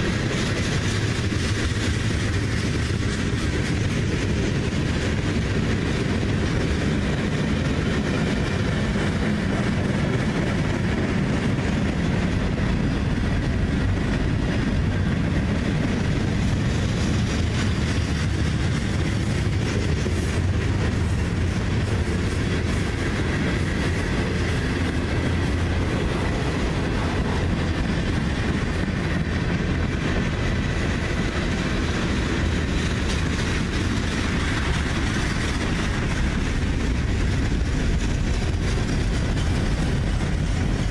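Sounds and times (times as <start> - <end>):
train wheels on rails: 0.0 - 40.9.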